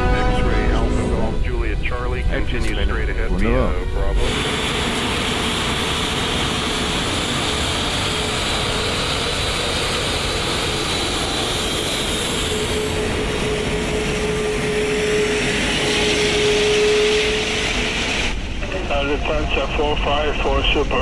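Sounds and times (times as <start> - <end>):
aircraft cockpit engine noise: 0.0 - 21.0.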